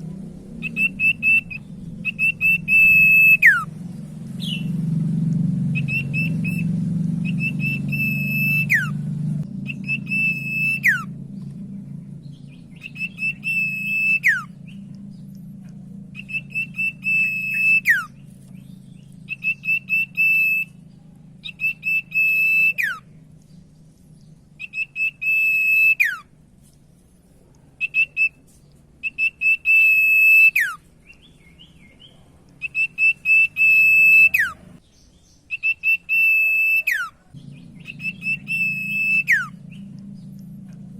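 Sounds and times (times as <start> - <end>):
low background hum: 0.0 - 40.9
bird singing high whistle: 0.6 - 3.7, 4.4 - 4.8, 5.7 - 9.0, 9.6 - 11.2, 12.2 - 15.3, 16.1 - 23.2, 24.6 - 26.3, 27.8 - 40.4.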